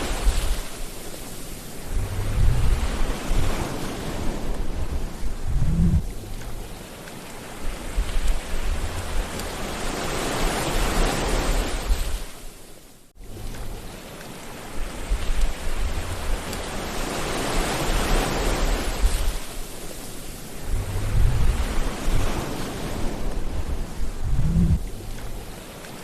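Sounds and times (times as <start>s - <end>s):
sea waves washing ashore: 0.0s - 26.0s.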